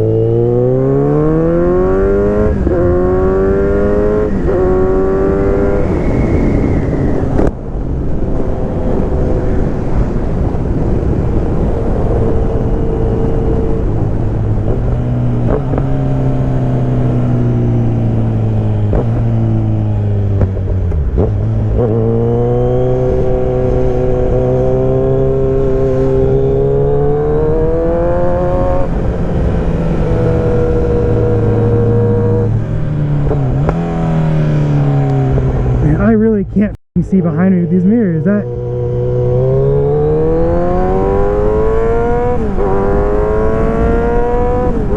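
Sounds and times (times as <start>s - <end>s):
motorcycle engine revving through gears: 0.0s - 36.2s, 38.2s - 44.9s
wind rush: 1.4s - 36.6s, 37.2s - 44.9s.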